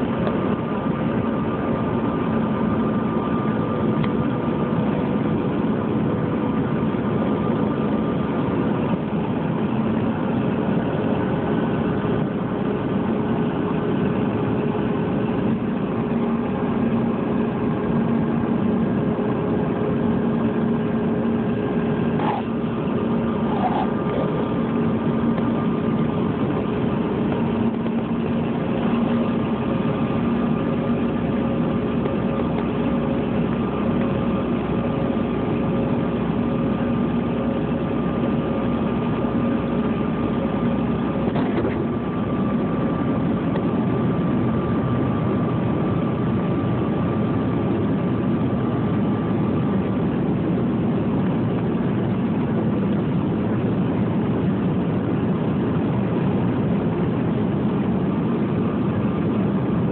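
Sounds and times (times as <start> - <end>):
airliner engine drone: 0.0 - 59.9.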